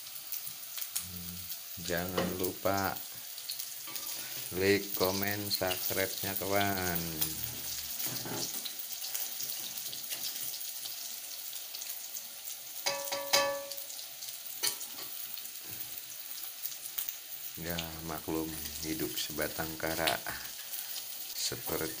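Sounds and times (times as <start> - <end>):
noodles and egg sizzling in wok: 0.0 - 22.0.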